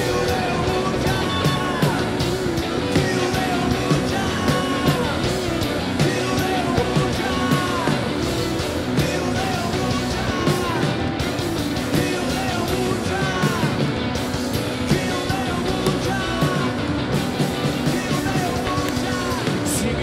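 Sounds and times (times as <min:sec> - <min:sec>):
drums with a steady beat: 0:00.0 - 0:20.0
electric guitar: 0:00.0 - 0:20.0.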